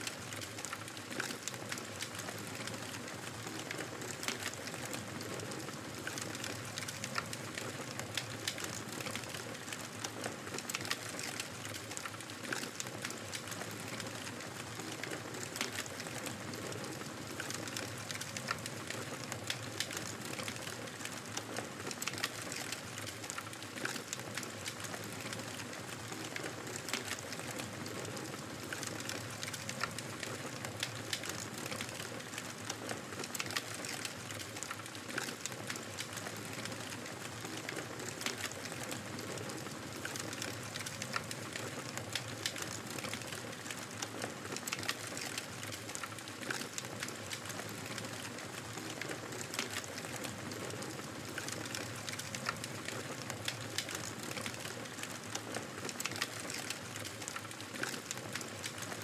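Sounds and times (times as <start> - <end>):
wood fire crackling: 0.0 - 59.0
fire popping and snapping: 5.6 - 58.8.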